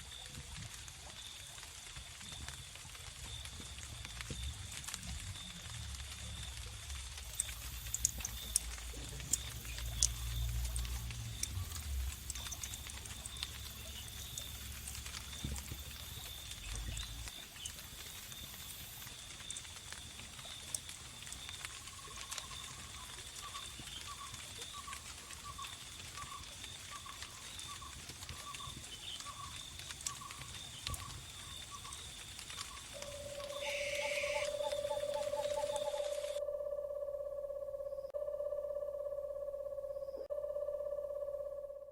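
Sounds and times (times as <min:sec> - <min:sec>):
wood fire crackling and popping: 0:00.1 - 0:36.4
cricket trill: 0:01.2 - 0:41.9.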